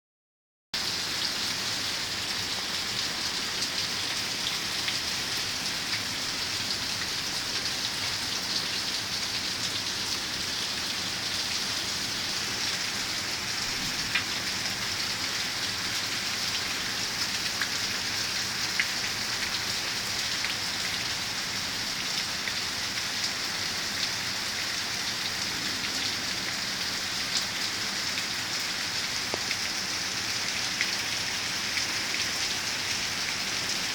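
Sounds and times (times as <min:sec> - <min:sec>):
hard rain pouring: 0:00.8 - 0:33.9.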